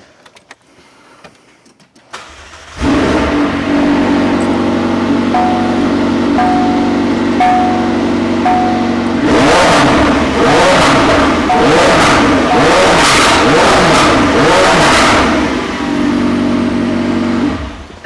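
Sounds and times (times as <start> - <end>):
car engine idling and revving: 2.2 - 18.0.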